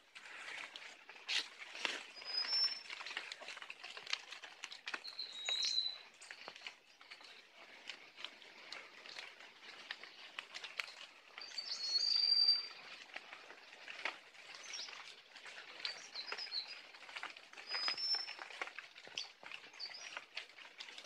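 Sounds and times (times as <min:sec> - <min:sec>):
crackle of small clicks: 0:00.0 - 0:21.0
songbirds chirping: 0:01.8 - 0:03.6, 0:04.8 - 0:20.5.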